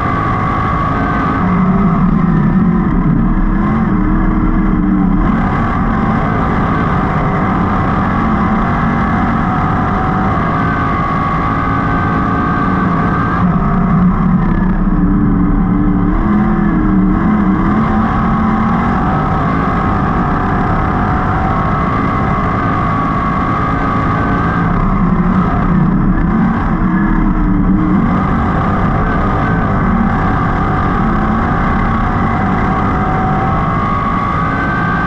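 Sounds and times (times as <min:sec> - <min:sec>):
race car engine running hard: 0:00.0 - 0:35.0.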